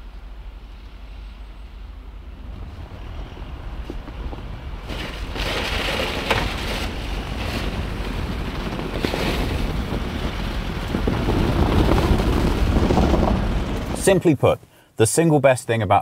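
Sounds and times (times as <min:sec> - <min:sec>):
pickup truck engine rumble: 0:00.0 - 0:14.1
wind buffeting microphone: 0:01.0 - 0:14.3.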